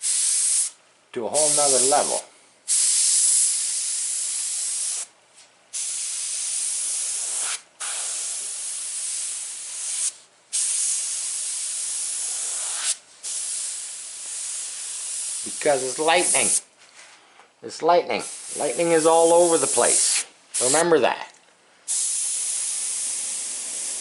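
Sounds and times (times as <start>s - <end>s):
airbrush spraying paint: 0.0s - 0.8s, 1.4s - 5.1s, 5.7s - 16.7s, 18.2s - 20.8s, 21.9s - 24.0s.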